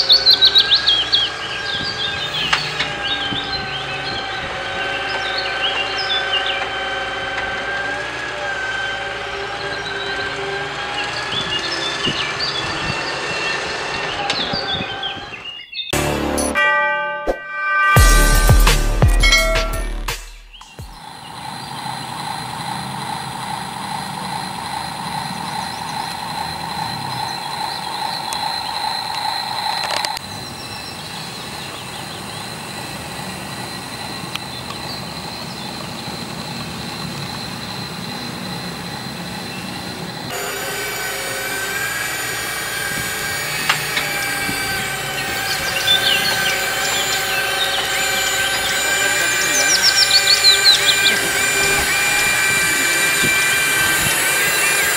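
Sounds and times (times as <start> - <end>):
toy excavator motors whining: 0.0 - 16.0, 19.2 - 54.9.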